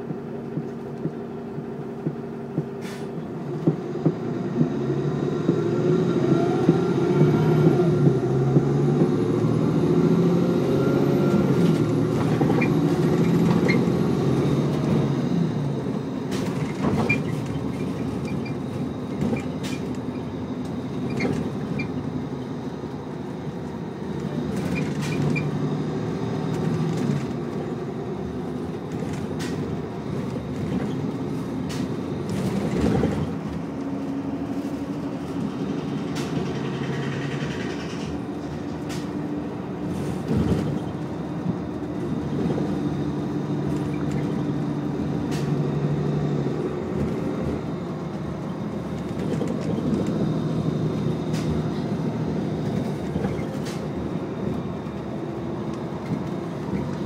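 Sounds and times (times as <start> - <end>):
bus body rattles: 0.0 - 57.0
bus engine hum: 0.0 - 57.0.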